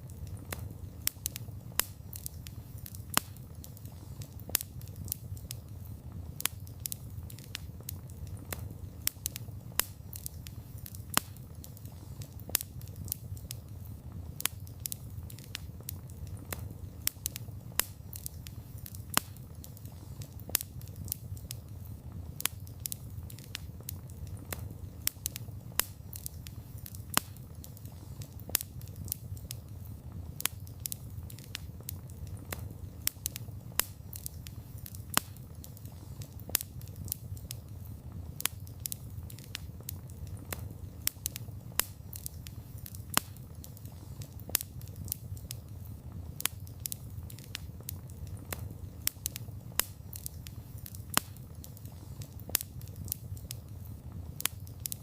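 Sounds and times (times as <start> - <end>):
fire pops and snaps: 0.0 - 55.0
low rumble of flames: 0.0 - 55.0
wood fire crackling: 0.0 - 55.0.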